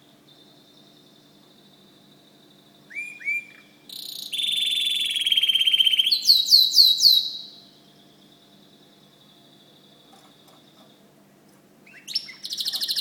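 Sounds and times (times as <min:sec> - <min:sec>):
canary singing: 0:00.3 - 0:11.0, 0:11.8 - 0:13.0.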